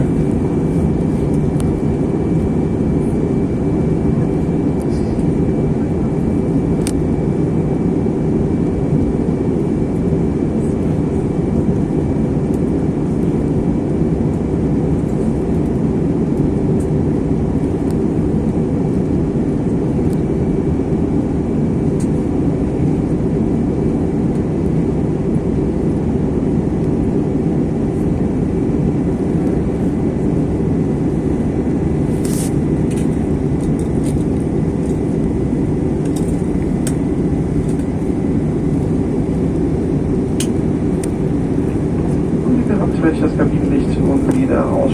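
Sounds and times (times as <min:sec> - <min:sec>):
airliner cabin engine noise: 0:00.0 - 0:44.9.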